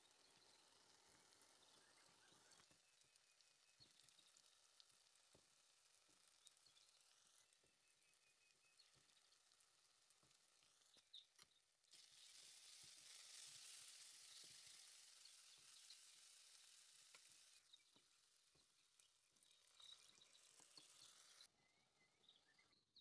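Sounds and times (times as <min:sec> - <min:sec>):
masala sizzling in a pan: 0:00.0 - 0:21.5
small crackles: 0:00.0 - 0:21.5.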